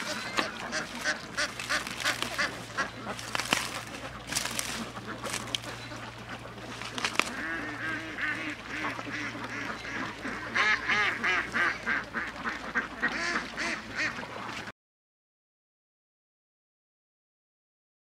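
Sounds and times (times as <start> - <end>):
ducks quacking: 0.0 - 14.7.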